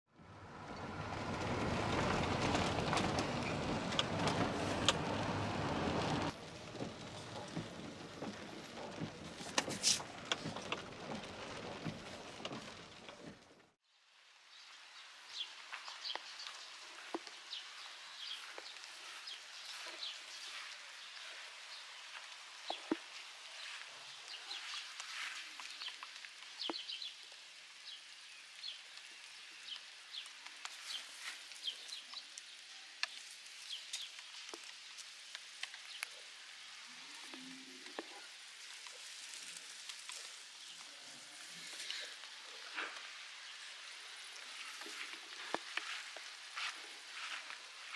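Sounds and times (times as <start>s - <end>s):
light rain dripping: 0.2s - 47.9s
dense rain hiss: 0.3s - 47.9s.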